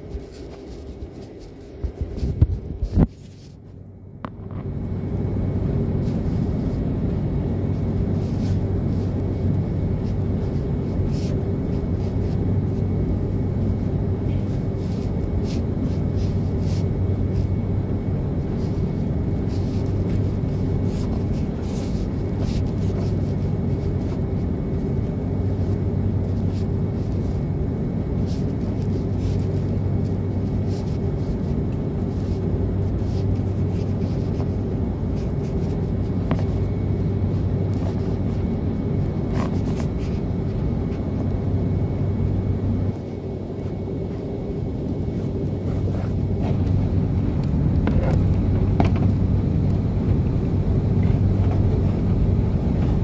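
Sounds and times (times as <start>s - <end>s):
jet engine rumble and hum: 0.0s - 53.0s.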